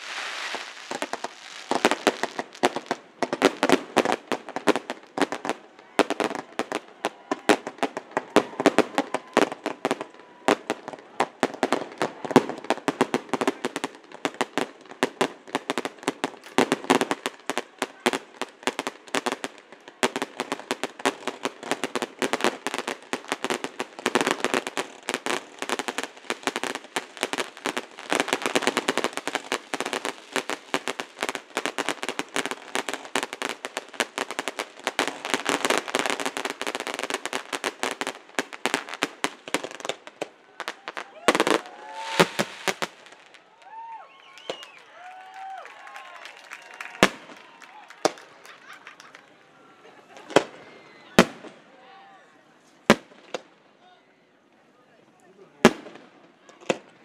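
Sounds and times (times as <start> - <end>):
fireworks bangs and crackling: 0.0 - 51.6, 52.8 - 53.6, 55.5 - 57.0.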